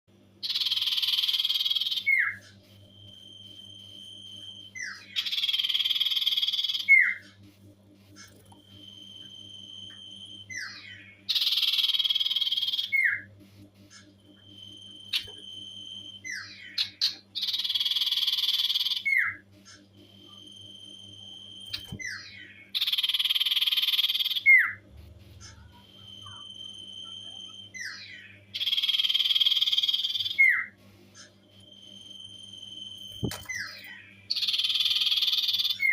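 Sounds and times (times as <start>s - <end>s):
bird whistling and trilling: 0.4s - 7.4s, 8.2s - 13.3s, 13.9s - 24.8s, 25.4s - 35.9s.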